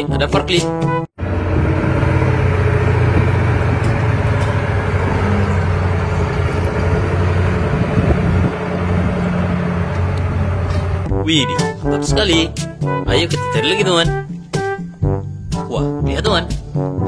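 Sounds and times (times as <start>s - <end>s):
diesel engine humming: 1.2s - 15.5s.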